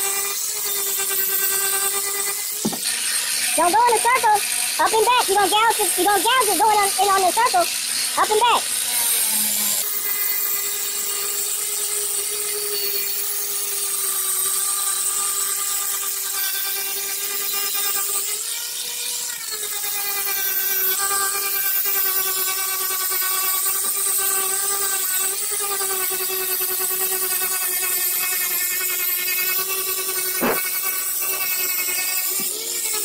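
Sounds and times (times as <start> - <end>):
electric grinder grinding: 0.0 - 33.0.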